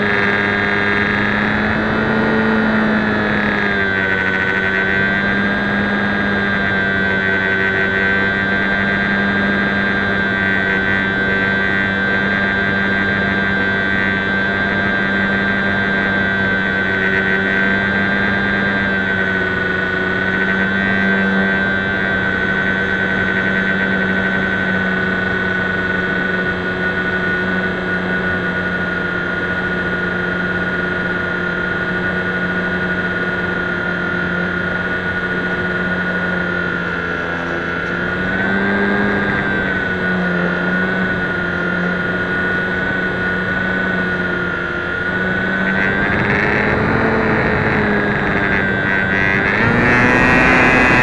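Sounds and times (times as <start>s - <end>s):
electric motor whine: 0.0s - 51.0s.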